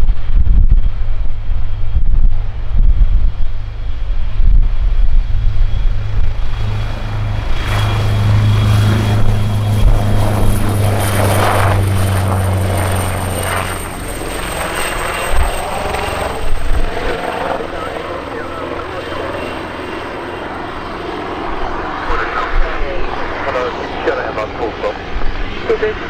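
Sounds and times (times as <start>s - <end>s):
helicopter rotor drone: 0.0s - 26.0s
high turbine whine: 0.0s - 26.0s.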